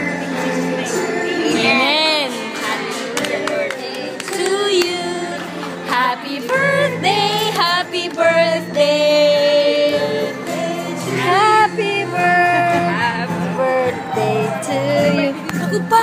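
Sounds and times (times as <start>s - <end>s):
woman singing slow melody: 1.3s - 16.0s.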